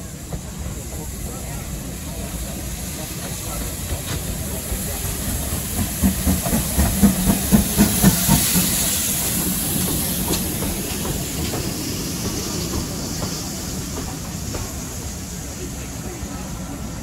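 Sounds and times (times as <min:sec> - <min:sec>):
steam hissing: 0:00.0 - 0:17.0
steam locomotive exhaust beats: 0:00.0 - 0:17.0
train coaches rumbling past: 0:00.0 - 0:17.0.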